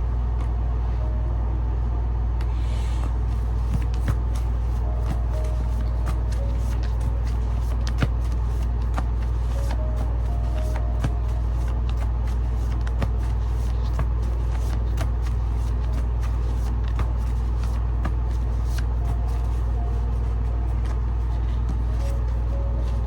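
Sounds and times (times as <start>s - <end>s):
low hum: 0.0s - 23.0s
cards clicking and tapping: 3.1s - 23.0s.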